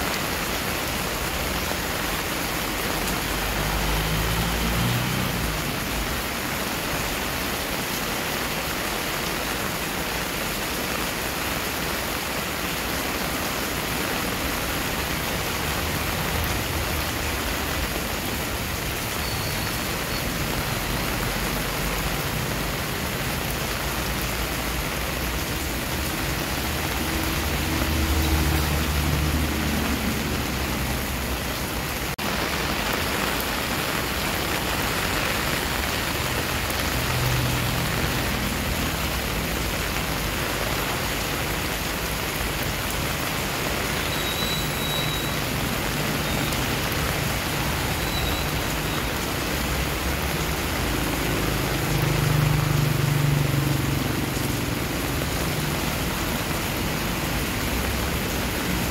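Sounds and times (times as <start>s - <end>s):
heavy rain on pavement and leaves: 0.0s - 58.9s.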